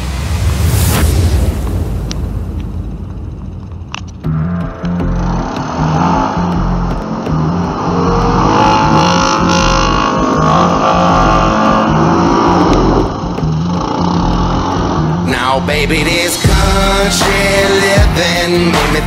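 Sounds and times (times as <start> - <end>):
background music with bass line: 0.0 - 19.0
vehicle engine revving: 1.6 - 19.0.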